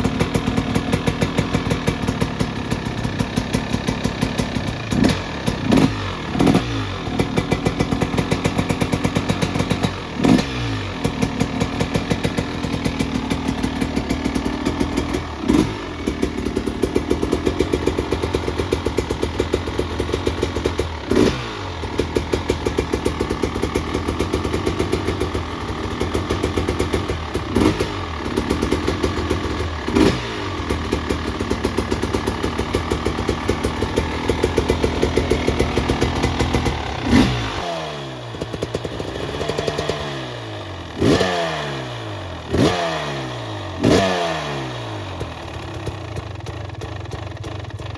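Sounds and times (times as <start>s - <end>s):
two-stroke engine idling and revving: 0.0s - 47.9s.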